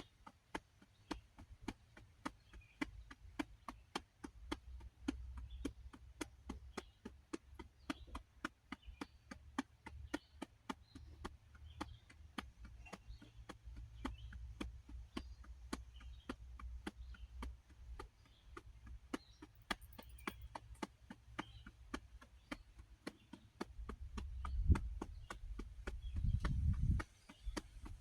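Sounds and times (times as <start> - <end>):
fingertips tapping on belly: 0.0 - 28.0.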